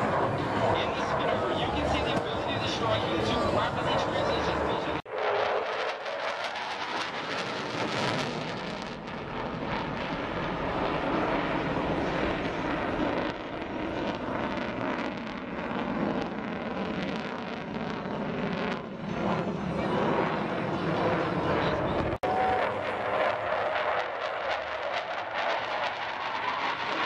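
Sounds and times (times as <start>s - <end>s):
fighter jet afterburner roar: 0.0s - 17.8s, 20.2s - 27.0s.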